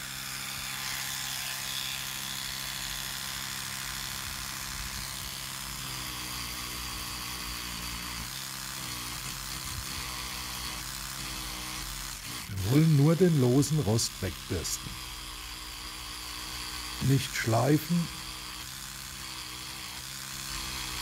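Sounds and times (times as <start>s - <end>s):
electric toothbrush buzzing: 0.0s - 21.0s.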